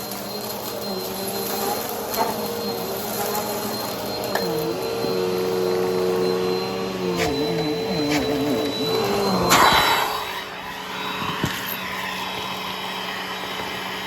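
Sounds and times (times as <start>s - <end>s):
vacuum cleaner motor hum: 0.0s - 14.0s.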